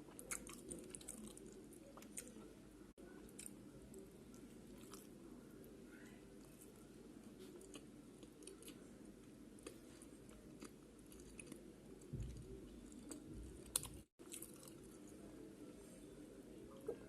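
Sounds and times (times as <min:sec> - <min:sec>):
close-miked chewing: 0:00.0 - 0:02.5, 0:03.1 - 0:05.7, 0:06.3 - 0:15.3.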